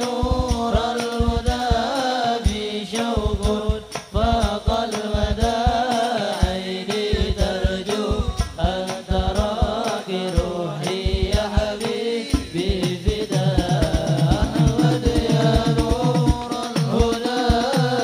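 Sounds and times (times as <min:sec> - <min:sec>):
devotional song sung melismatically: 0:00.0 - 0:18.0.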